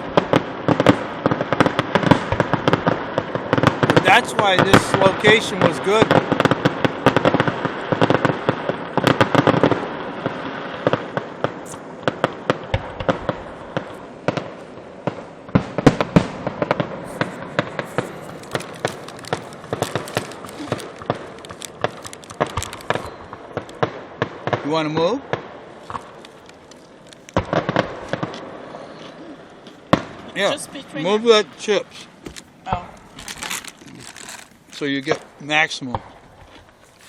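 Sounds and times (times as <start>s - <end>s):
firework bangs: 0.0s - 37.0s
fireworks crackling pops: 0.0s - 37.0s.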